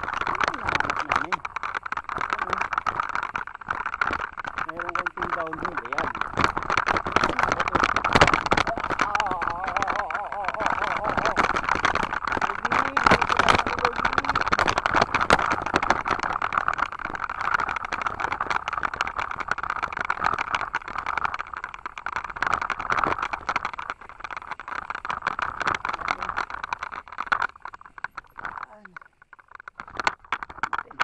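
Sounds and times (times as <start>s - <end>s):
bike rattling: 0.0s - 31.0s
tyres crunching over loose stones: 0.0s - 31.0s.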